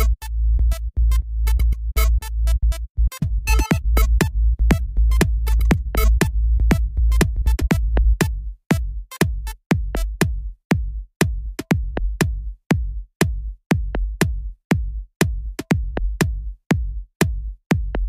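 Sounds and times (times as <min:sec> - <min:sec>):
deep bass: 0:00.0 - 0:18.0
drum machine kick drum: 0:02.7 - 0:18.0.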